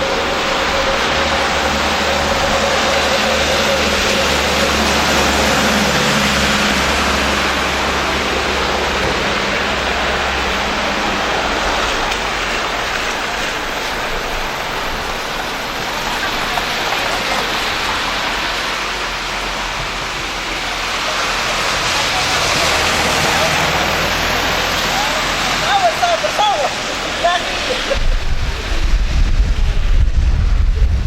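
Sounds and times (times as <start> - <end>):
hail and rain falling hard: 0.0 - 31.0.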